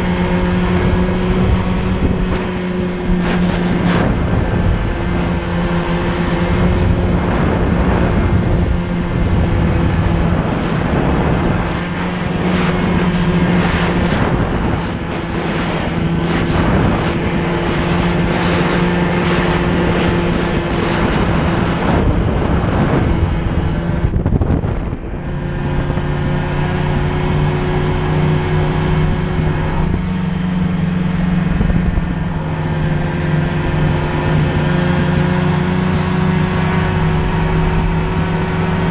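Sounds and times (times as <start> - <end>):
rushing road noise: 0.0 - 38.9
vehicle engine running: 0.0 - 38.9.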